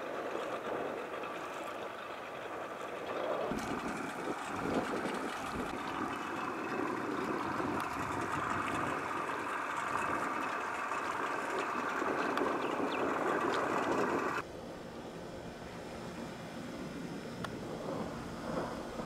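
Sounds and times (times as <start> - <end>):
motor drone: 0.0 - 19.0.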